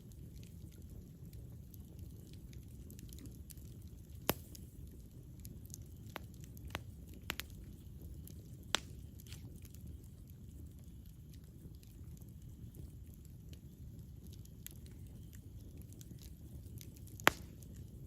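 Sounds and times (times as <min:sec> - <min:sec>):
campfire burning: 0:00.0 - 0:18.0
wood crackling and popping: 0:00.0 - 0:18.0.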